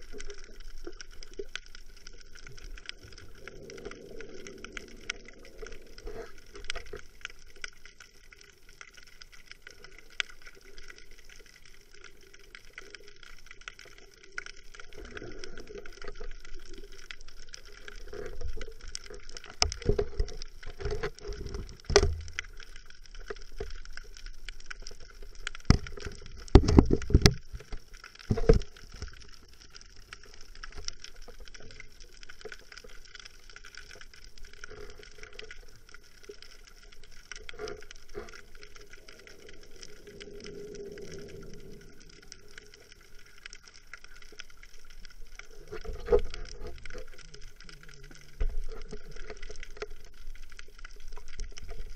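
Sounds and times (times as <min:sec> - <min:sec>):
underwater crackle: 0:00.0 - 0:51.9.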